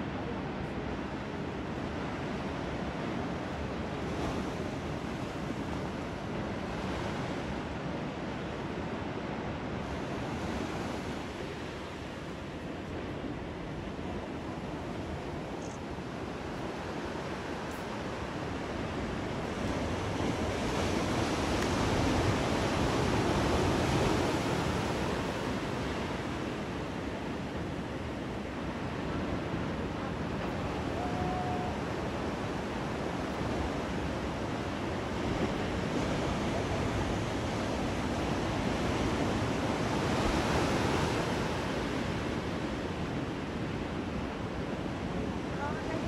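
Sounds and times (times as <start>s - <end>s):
ocean waves breaking: 0.0s - 46.0s.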